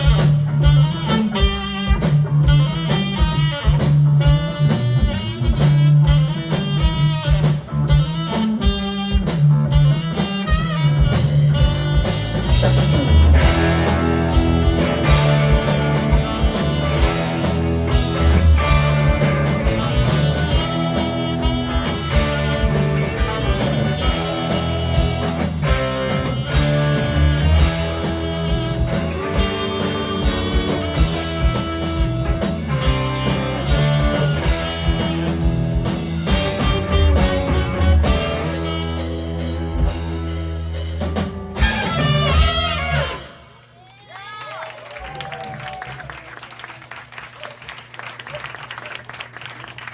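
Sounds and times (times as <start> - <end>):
busy drumming: 0.0 - 43.3
band playing instrumental: 0.0 - 43.8.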